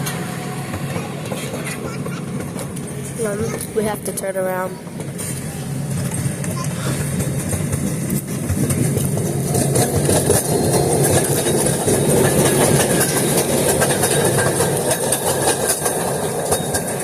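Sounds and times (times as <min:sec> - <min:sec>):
mini train rumbling on track: 0:00.0 - 0:17.0.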